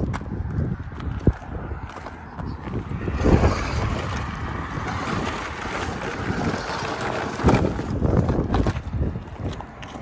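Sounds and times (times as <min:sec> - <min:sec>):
toy truck running over gravel: 0:00.0 - 0:10.0
wind buffeting microphone: 0:00.0 - 0:10.0.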